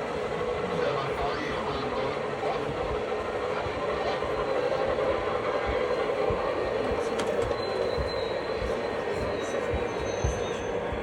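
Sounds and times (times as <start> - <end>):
train rolling past: 0.0 - 11.0
train wheels knocking: 0.0 - 11.0.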